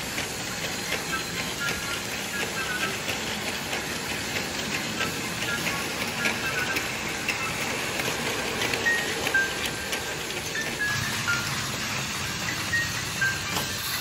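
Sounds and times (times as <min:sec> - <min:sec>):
toy train motor whirring: 0:00.0 - 0:14.0.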